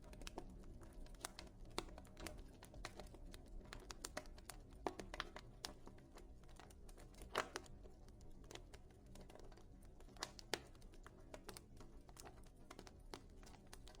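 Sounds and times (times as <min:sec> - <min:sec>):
wood fire crackling: 0:00.1 - 0:14.0.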